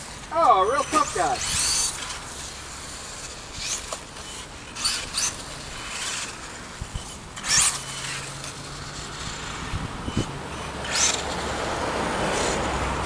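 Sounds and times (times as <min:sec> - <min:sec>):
rc car electric motors whining: 0:00.0 - 0:13.0.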